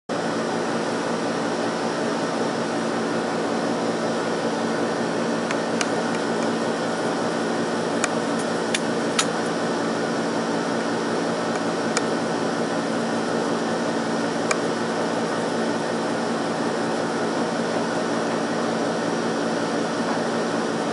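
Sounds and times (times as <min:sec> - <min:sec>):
machine hum and hiss: 0:00.1 - 0:20.9.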